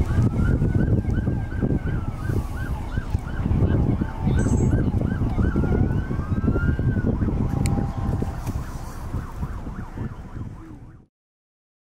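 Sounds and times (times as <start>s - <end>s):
emergency vehicle siren: 0.0s - 11.1s
steady low rumble: 0.0s - 11.1s.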